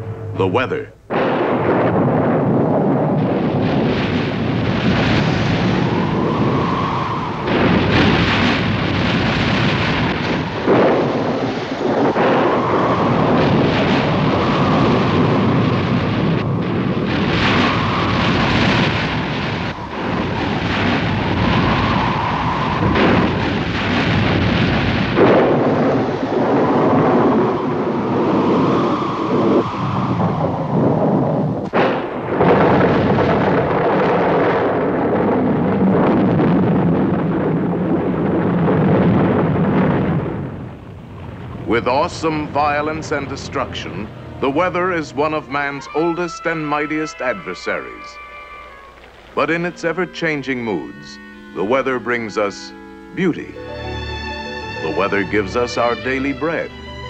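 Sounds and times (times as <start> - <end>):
rushing wind: 0.0 - 0.5, 1.1 - 56.0
thunder crashing and rumbling: 0.0 - 56.8.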